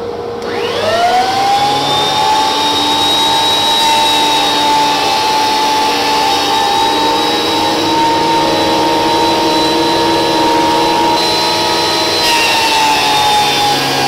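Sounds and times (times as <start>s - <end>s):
machine humming: 0.0s - 14.0s
planer motor whining: 0.0s - 14.0s.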